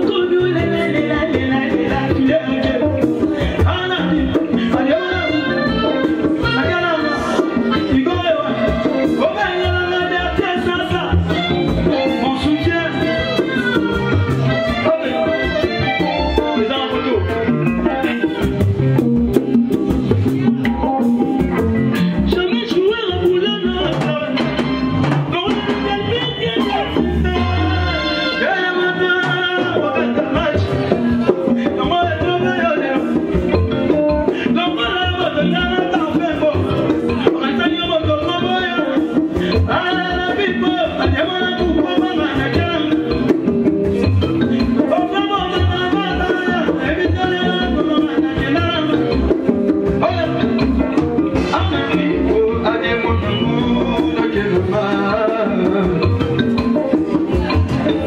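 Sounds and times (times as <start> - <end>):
dance band music: 0.0 - 58.0
drum kit with cymbals: 0.0 - 58.0
electric guitar: 0.0 - 58.0
keyboard: 0.0 - 58.0
person singing: 0.0 - 58.0.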